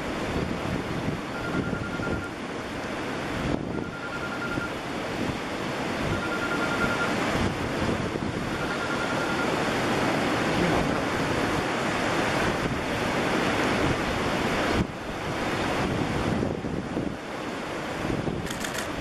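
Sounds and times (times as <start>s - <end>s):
wind buffeting microphone: 0.0s - 4.0s, 7.0s - 19.0s
waves washing over rocks: 0.0s - 19.0s.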